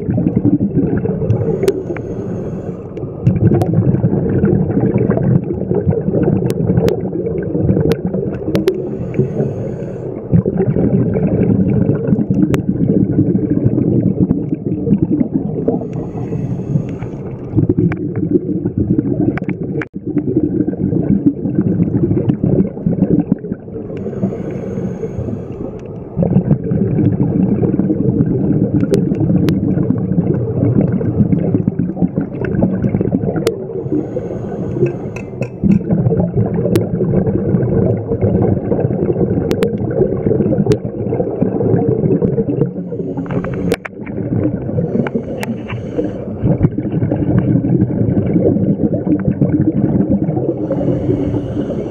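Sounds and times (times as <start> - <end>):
underwater bubbling rumble: 0.0 - 51.9.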